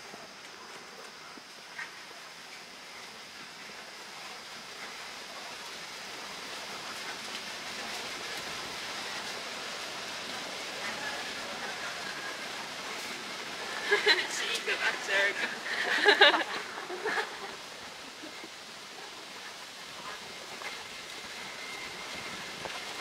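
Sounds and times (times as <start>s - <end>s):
steady rushing noise: 0.3s - 23.0s.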